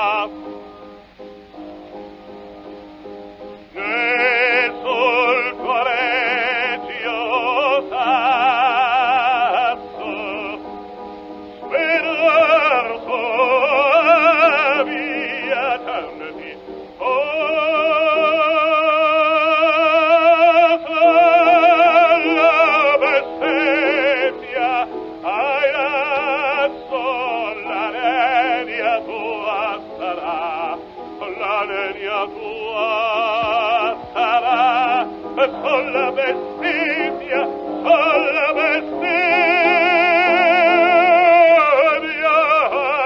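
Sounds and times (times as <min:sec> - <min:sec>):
operatic baritone singing: 0:00.0 - 0:00.5, 0:03.7 - 0:10.8, 0:11.6 - 0:43.0
musical accompaniment: 0:00.0 - 0:43.0.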